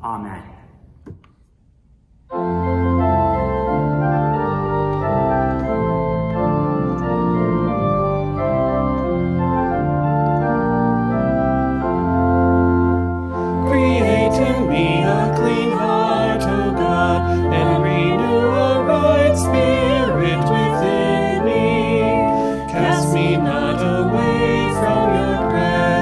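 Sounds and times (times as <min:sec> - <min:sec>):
church organ chords: 0:02.3 - 0:26.0.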